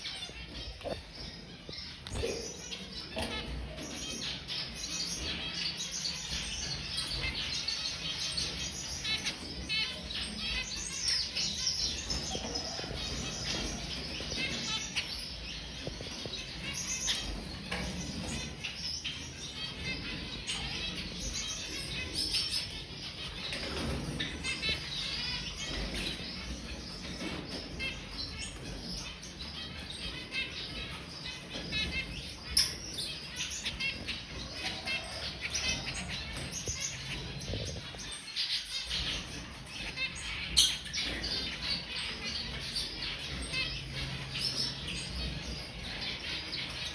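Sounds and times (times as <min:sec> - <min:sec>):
finches chirping: 0:00.0 - 0:46.9.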